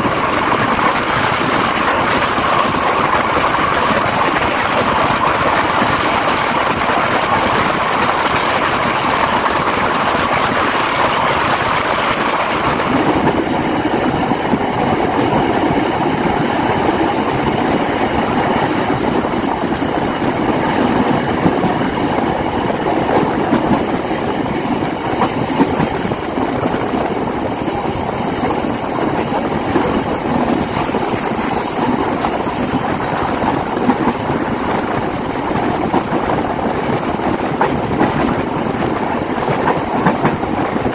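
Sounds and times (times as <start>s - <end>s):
rail joint clicks: 0.0s - 40.9s
train wheels rushing on rails: 0.0s - 40.9s.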